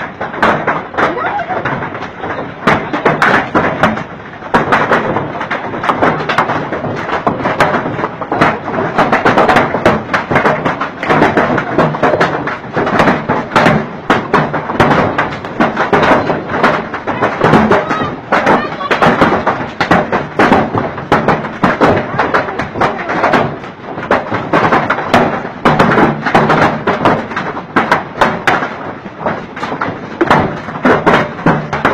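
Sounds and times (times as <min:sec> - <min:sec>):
heavy rain rushing: 0:00.0 - 0:29.3
hailstones clattering: 0:00.0 - 0:31.9.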